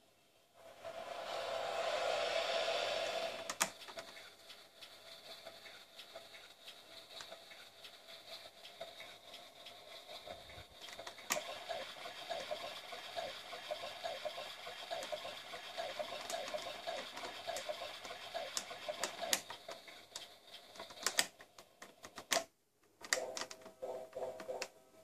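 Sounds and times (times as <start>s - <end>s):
swing motor whirring and ticking: 0.7s - 21.4s
sharp clicks: 3.4s - 23.8s.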